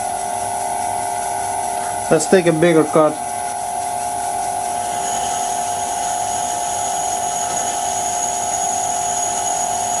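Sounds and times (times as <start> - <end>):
metal lathe whine: 0.0 - 10.0
thin high cutting tone: 0.0 - 10.0.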